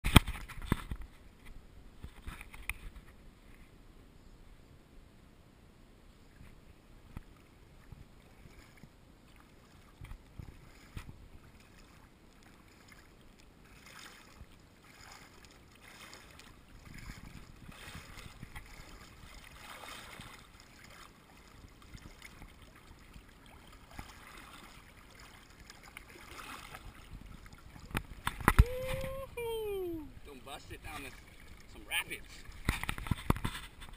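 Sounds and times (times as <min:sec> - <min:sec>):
water lapping and splashing: 0:06.2 - 0:33.9.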